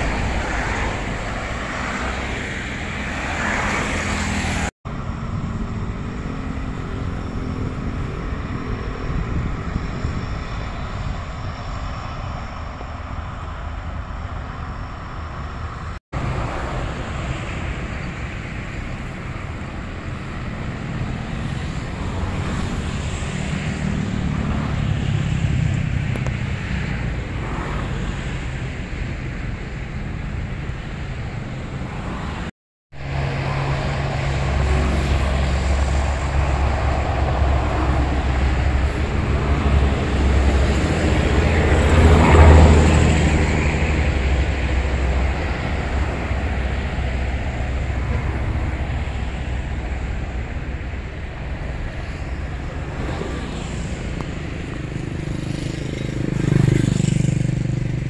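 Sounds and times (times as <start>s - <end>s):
jet engines on runway: 0.0s - 58.0s.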